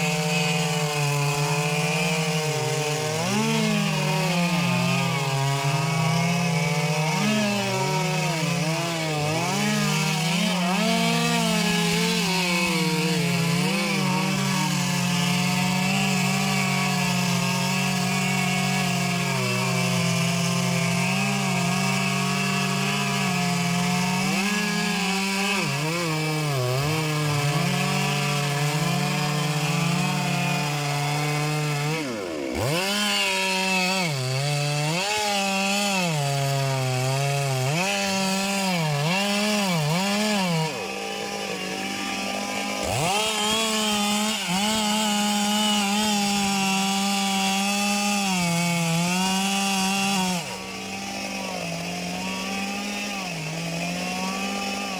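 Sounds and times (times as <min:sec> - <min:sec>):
chainsaw cutting a trunk: 0:00.0 - 0:54.9.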